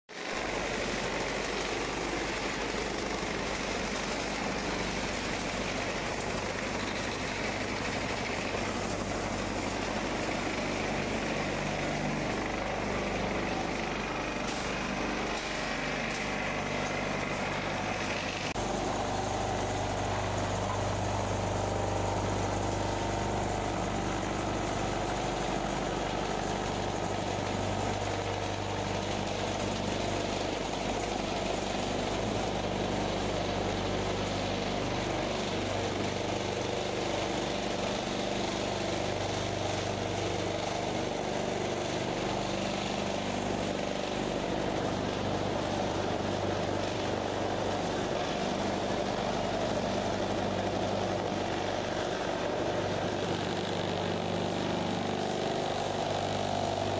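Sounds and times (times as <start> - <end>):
machinery motor humming: 0.2 - 56.9.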